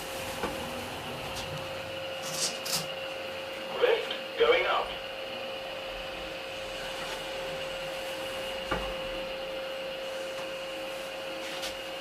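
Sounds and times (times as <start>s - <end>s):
elevator hum with whine: 0.0s - 12.0s.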